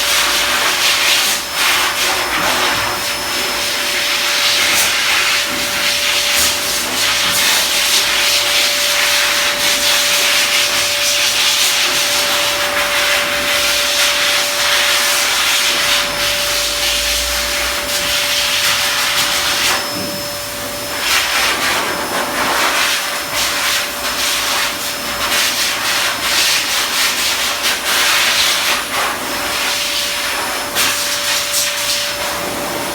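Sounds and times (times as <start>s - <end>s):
blow dryer rushing air: 0.0s - 32.9s.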